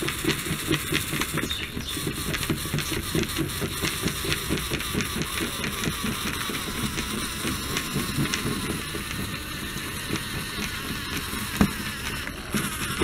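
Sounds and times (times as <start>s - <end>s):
electric motors running: 0.0s - 13.0s.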